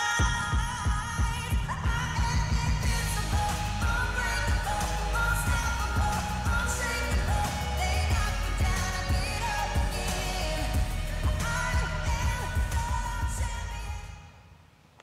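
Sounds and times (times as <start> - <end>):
heavy bass beat: 0.0 - 14.1
song with sung vocal: 0.0 - 14.5.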